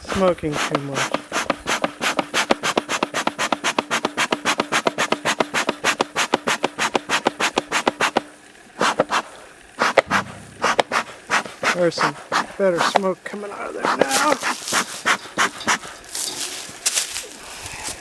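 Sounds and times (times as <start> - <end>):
bellows puffing air: 0.0 - 18.0.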